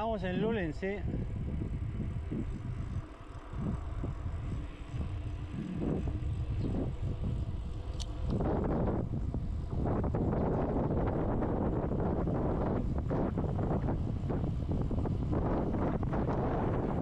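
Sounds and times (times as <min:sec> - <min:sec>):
bicycle tyre and road noise: 0:00.0 - 0:17.0
wind rumbling on microphone: 0:00.0 - 0:17.0.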